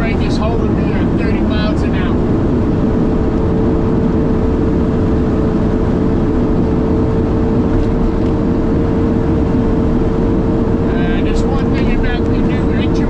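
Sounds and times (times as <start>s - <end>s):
engine and road drone: 0.0s - 13.0s
steady whine: 0.0s - 13.0s.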